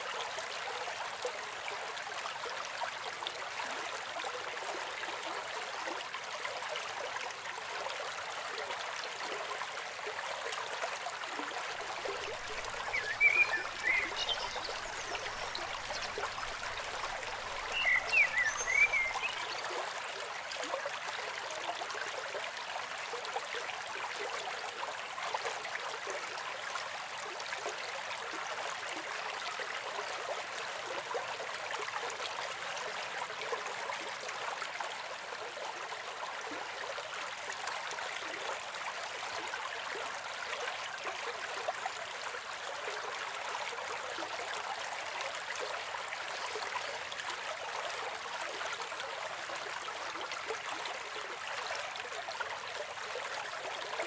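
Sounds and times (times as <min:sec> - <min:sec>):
stream babbling: 0:00.0 - 0:54.0.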